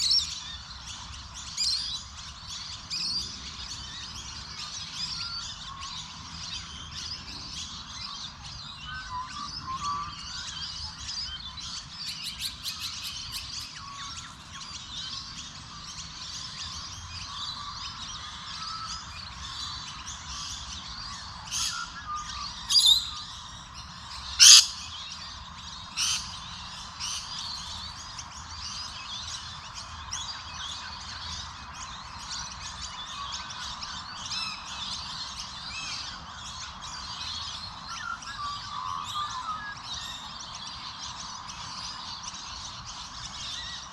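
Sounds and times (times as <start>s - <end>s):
birds chirping chorus: 0.0s - 43.9s
sharp bird calls: 0.0s - 43.9s.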